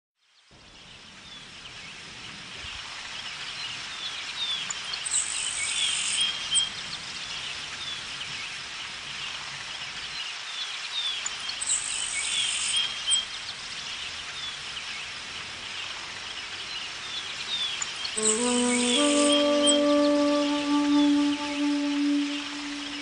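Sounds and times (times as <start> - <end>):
background natural noise: 0.2 - 23.0.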